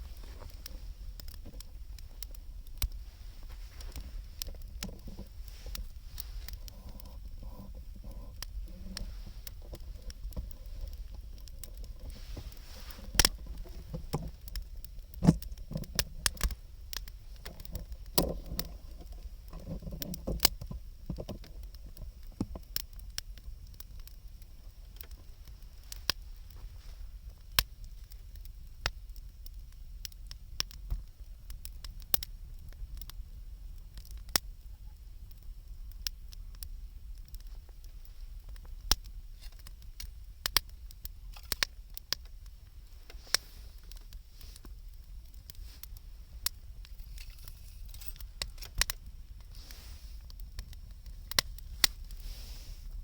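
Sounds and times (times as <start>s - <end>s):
sharp pops of fire: 0.0s - 34.6s, 35.2s - 53.0s
wood fire crackling: 0.0s - 53.0s.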